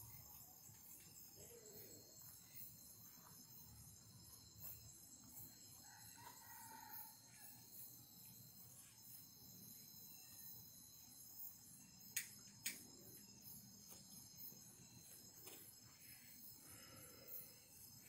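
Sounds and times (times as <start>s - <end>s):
night insects trilling: 0.0s - 18.0s.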